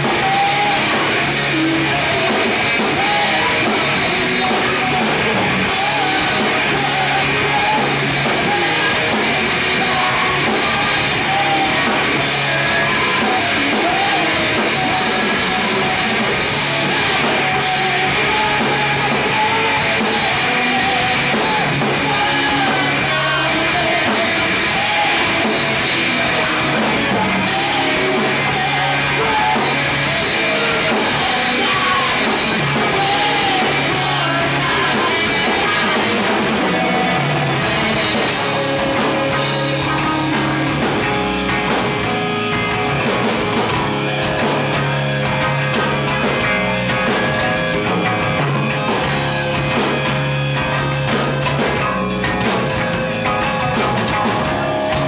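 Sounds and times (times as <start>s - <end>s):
bass guitar: 0.0s - 55.0s
distorted electric guitars: 0.0s - 55.0s
drum kit: 0.0s - 55.0s
person singing: 0.0s - 55.0s.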